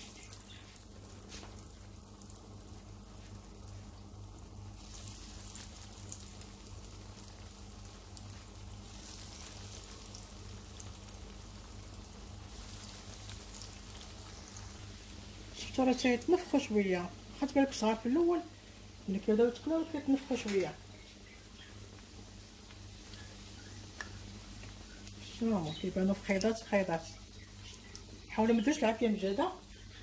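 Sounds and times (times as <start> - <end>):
dough sizzling in hot oil: 0.0 - 30.0.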